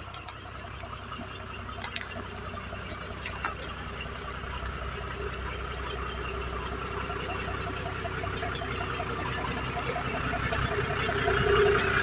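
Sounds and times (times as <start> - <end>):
motorhome engine rumbling: 0.0 - 12.0.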